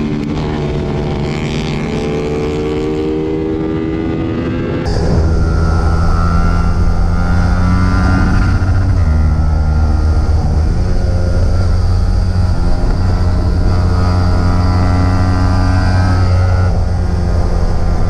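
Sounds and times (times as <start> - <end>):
motorcycle engine running: 0.0 - 18.0
wind rush: 0.0 - 18.0.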